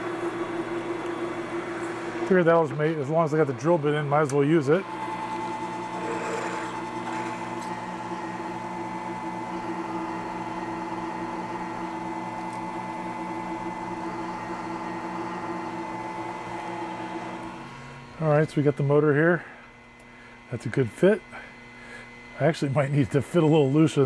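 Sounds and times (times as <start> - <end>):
milling machine motor hum: 0.0 - 24.0.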